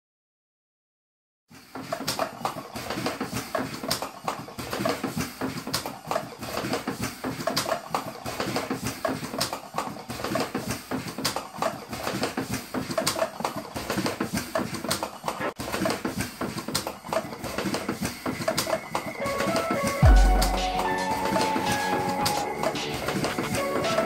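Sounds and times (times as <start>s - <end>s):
busy mechanical noise: 1.6s - 24.0s.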